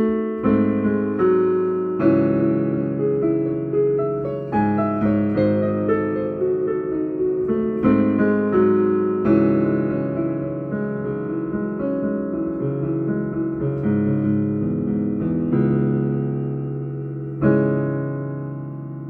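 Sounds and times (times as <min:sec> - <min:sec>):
slow piano piece: 0:00.0 - 0:19.0.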